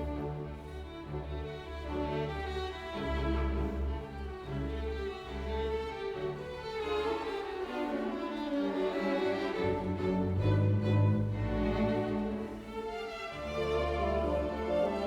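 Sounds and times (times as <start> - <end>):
low cello line: 0.0 - 15.0.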